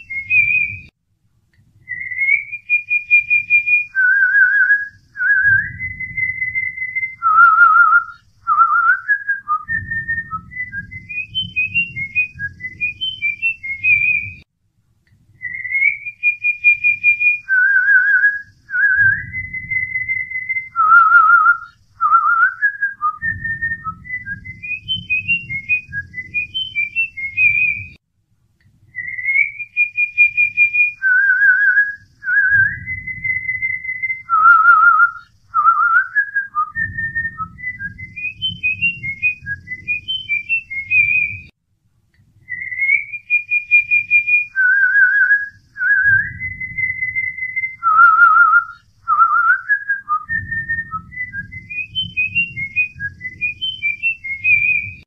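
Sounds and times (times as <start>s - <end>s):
whistled melody: 0.0s - 0.9s, 1.8s - 14.5s, 15.4s - 28.0s, 28.9s - 41.5s, 42.4s - 55.0s
low rhythmic pulsing: 0.0s - 15.9s, 16.7s - 28.0s, 30.4s - 41.5s, 43.8s - 55.0s.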